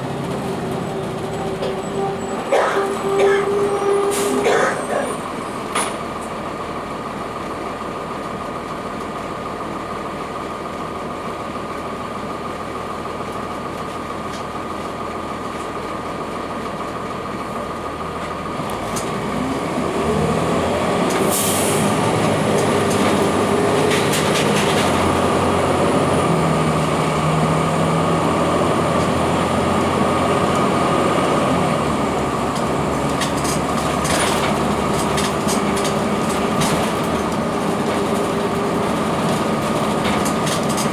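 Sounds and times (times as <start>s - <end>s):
diesel bus engine: 0.0s - 40.9s.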